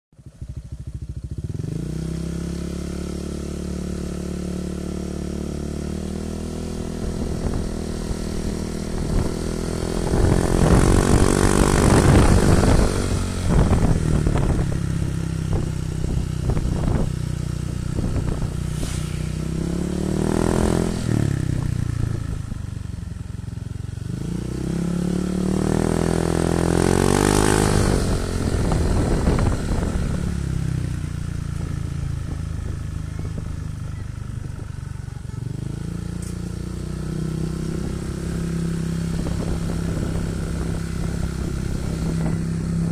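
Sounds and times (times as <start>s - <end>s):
scooter engine idling and revving: 0.1s - 42.9s.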